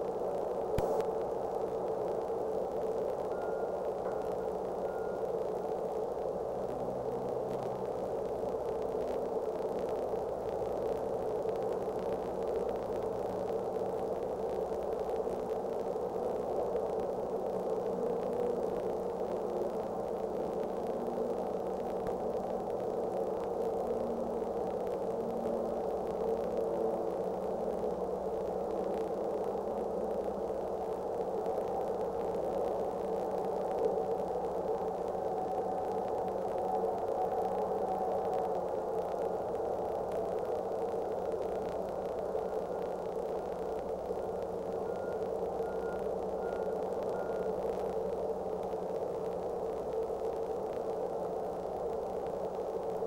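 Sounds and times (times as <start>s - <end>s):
faint low hum: 0.0s - 53.0s
static-like noise: 0.0s - 53.0s.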